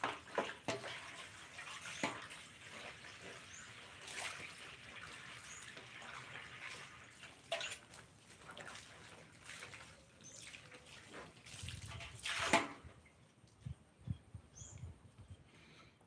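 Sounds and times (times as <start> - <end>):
hose water running into basin: 0.0 - 13.0
water splashes: 0.0 - 13.6.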